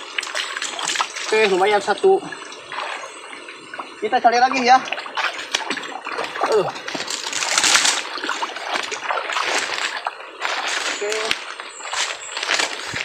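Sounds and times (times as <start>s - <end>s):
swamp water splashing: 0.0s - 13.0s.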